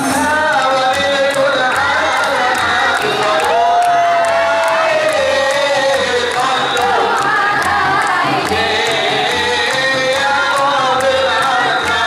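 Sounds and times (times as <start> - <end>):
voices singing a devotional chant: 0.0 - 12.0.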